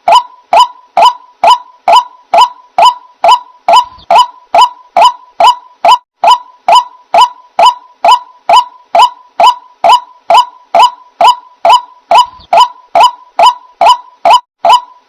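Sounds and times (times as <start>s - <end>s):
bird honking call: 0.1s - 15.0s.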